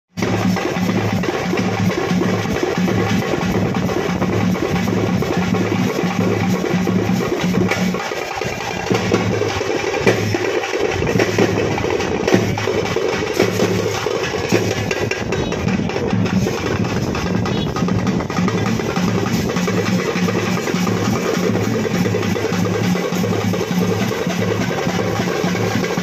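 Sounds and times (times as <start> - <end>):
drums beating fast rhythm: 0.1 - 26.0.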